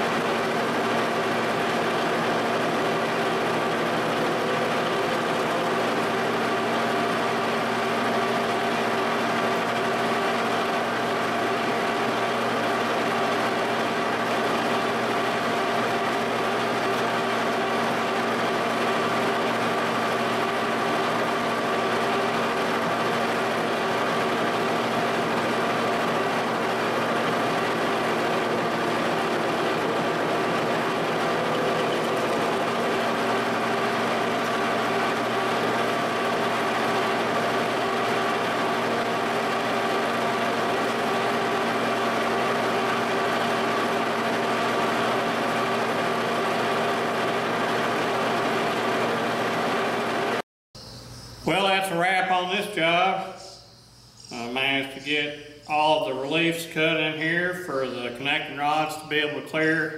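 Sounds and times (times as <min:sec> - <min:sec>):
boring mill humming and whining: 0:00.0 - 0:59.9.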